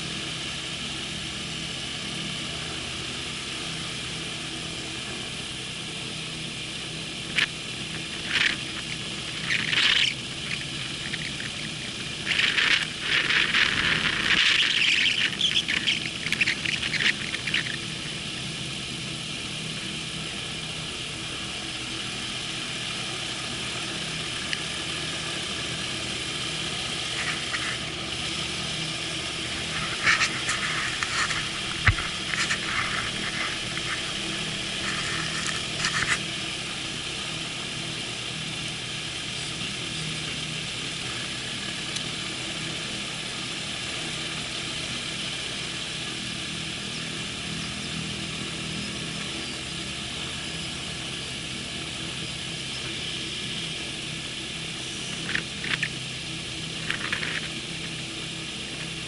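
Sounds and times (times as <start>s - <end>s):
gyroplane engine running: 0.0s - 59.0s.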